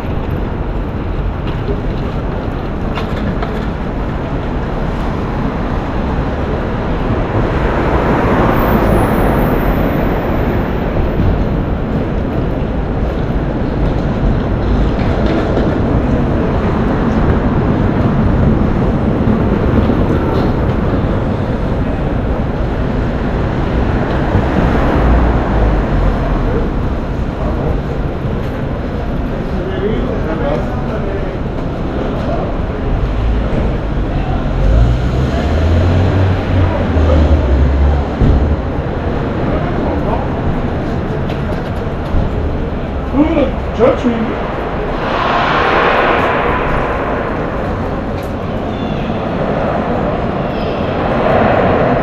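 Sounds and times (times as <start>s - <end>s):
rumble of passing vehicles: 0.0s - 52.0s.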